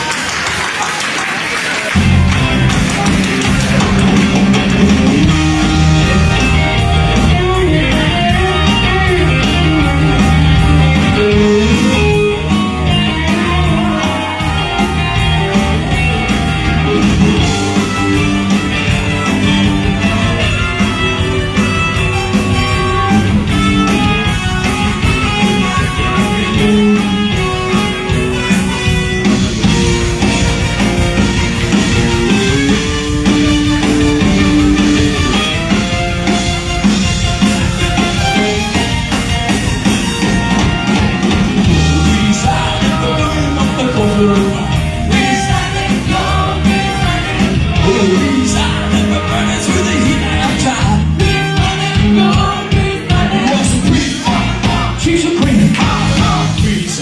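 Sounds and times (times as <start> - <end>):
electric guitar: 1.9 - 57.0
drum kit beat: 2.0 - 57.0.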